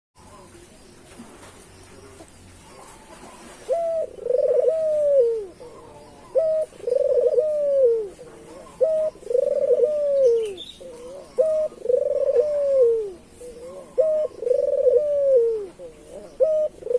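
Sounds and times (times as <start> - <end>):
dove cooing: 2.0 - 16.9.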